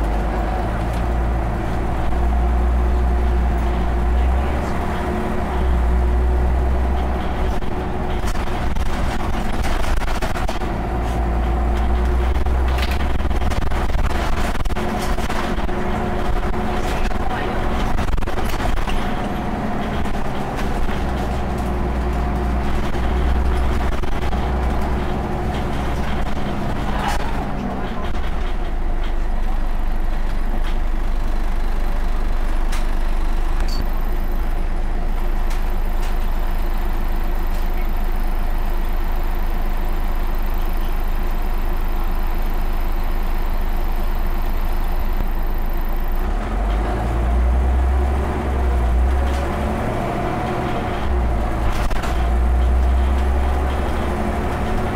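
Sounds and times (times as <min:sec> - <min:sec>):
bus diesel engine: 0:00.0 - 0:54.9.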